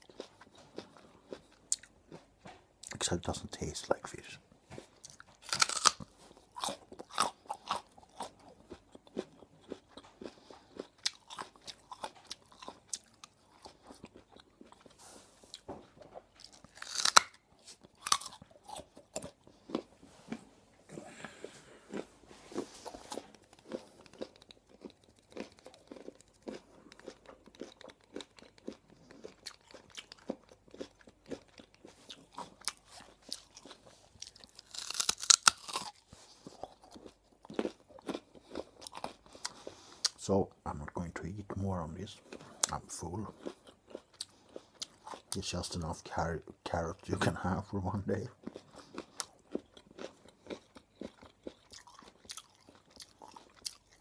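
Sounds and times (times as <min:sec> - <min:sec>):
carrot being bitten and chewed: 0:00.0 - 0:04.2, 0:04.8 - 0:54.0.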